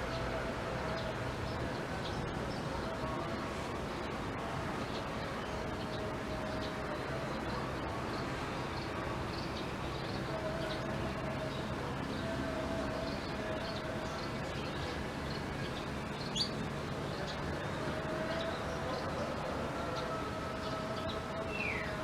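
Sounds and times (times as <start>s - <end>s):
rumbling background noise: 0.0s - 22.0s.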